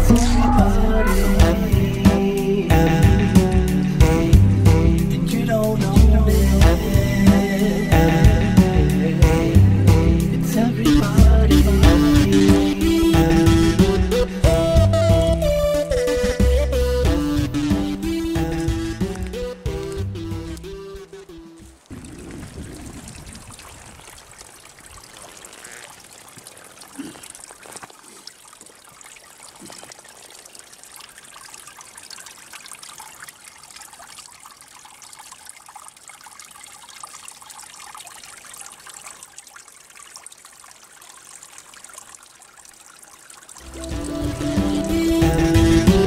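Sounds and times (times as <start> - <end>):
stream trickling over stones: 0.0 - 14.6, 17.0 - 46.0.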